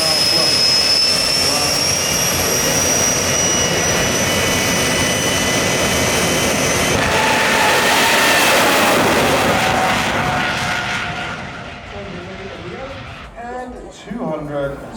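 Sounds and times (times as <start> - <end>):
high whine rising in pitch: 0.0 - 14.2
jet turbine engine roaring: 0.0 - 14.9.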